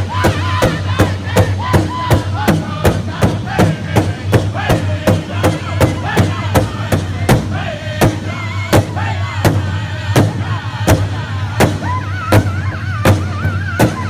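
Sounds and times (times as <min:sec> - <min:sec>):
big drum beating: 0:00.0 - 0:14.0.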